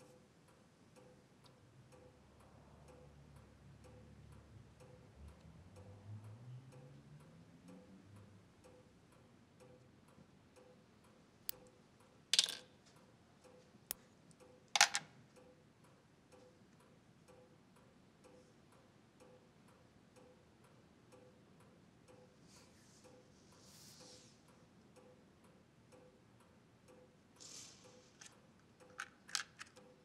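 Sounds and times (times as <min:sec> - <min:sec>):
clock ticking: 0:00.0 - 0:12.2, 0:13.0 - 0:22.4, 0:24.5 - 0:27.4.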